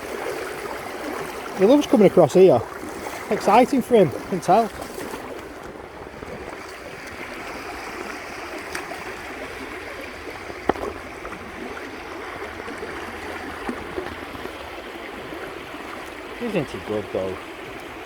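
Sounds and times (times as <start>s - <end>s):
river water running over rocks: 0.0s - 18.0s.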